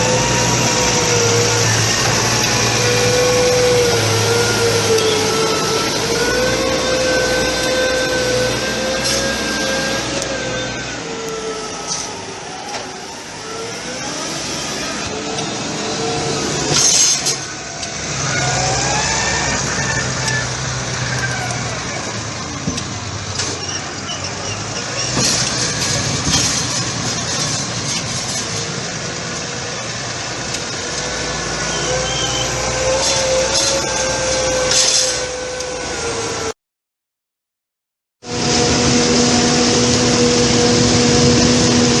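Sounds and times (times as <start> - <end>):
diesel engines running: 0.0 - 36.5, 38.2 - 42.0.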